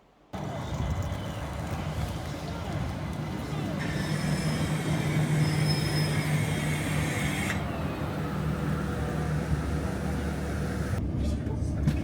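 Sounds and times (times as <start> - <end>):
electric train running drone: 0.4 - 11.0.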